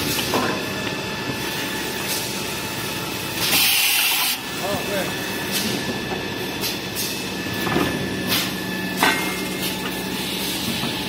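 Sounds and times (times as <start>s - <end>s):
machinery humming with high whine: 0.0s - 11.0s.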